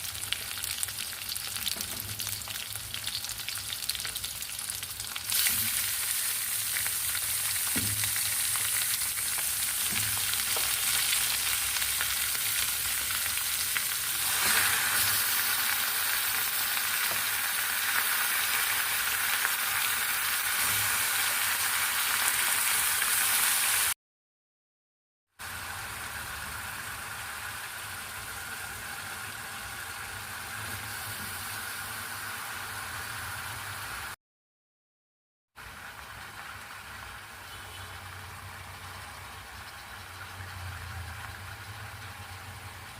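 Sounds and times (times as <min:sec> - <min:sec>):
food sizzling in hot oil: 0:00.0 - 0:24.0, 0:25.4 - 0:34.2, 0:35.6 - 0:42.9.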